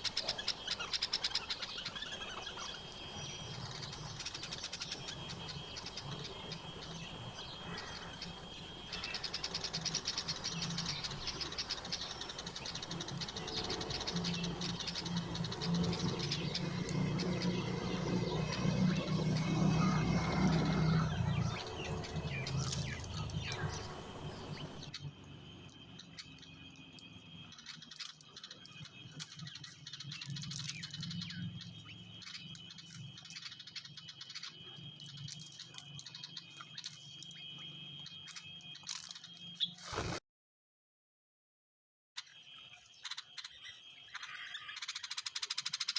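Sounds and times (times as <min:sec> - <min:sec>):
small birds chirping: 0:00.0 - 0:40.2, 0:42.2 - 0:45.9.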